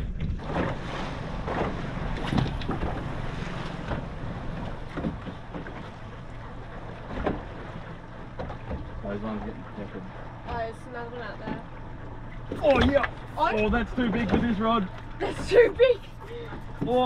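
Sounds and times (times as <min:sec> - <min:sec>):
knocks on boat: 0:00.0 - 0:06.0, 0:07.0 - 0:09.6, 0:10.4 - 0:11.7, 0:12.4 - 0:17.0
low rumble: 0:00.0 - 0:16.8
water washing: 0:00.0 - 0:17.0.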